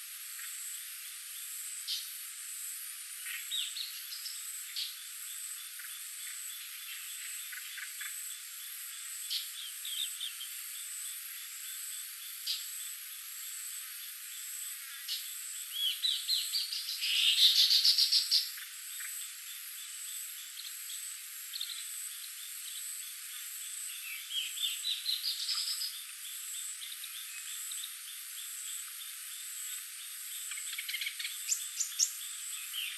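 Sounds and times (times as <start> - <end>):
insect drone: 0.0 - 32.9.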